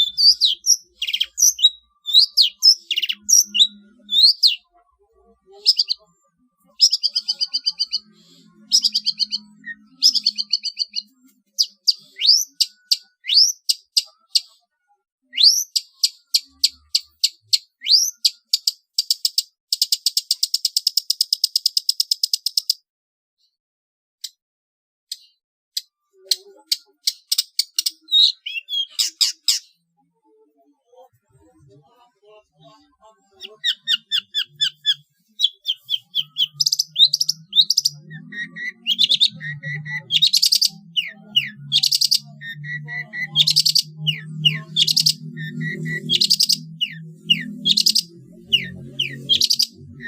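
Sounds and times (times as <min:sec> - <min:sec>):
shrike singing varied song: 0:00.0 - 0:22.8, 0:25.1 - 0:29.9, 0:32.6 - 0:50.0.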